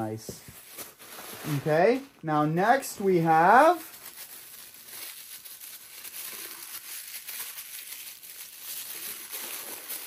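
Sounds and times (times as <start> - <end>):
packaging rustling and crinkling: 0.3 - 10.0.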